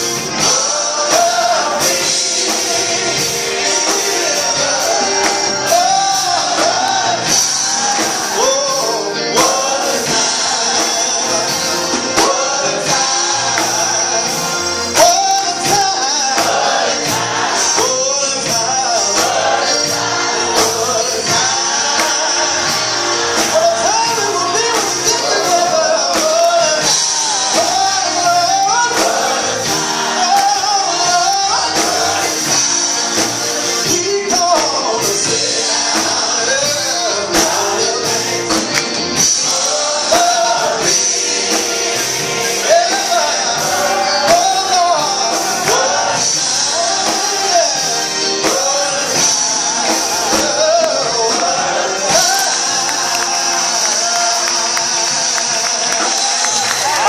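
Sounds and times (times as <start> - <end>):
choir singing: 0.0 - 57.0
drums steady beat: 0.0 - 57.0
man singing into microphone: 0.4 - 17.0, 17.6 - 19.8, 20.4 - 41.8, 42.4 - 57.0.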